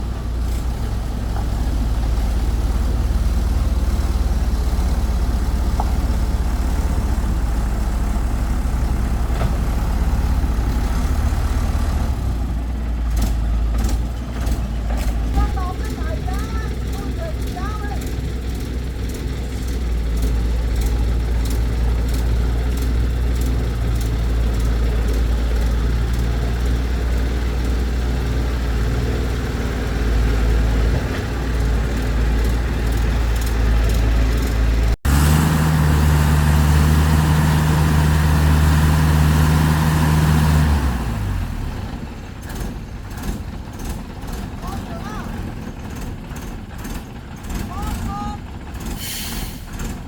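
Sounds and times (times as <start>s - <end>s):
heavy machinery engine running: 0.0s - 50.0s.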